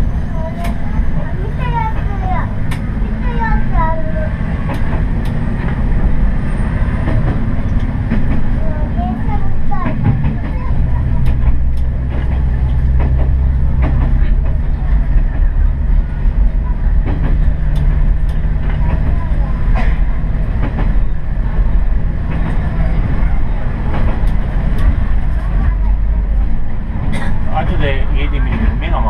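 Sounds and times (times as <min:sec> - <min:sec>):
railcar engine drone: 0:00.0 - 0:29.0
wheels clicking on track: 0:00.0 - 0:29.0.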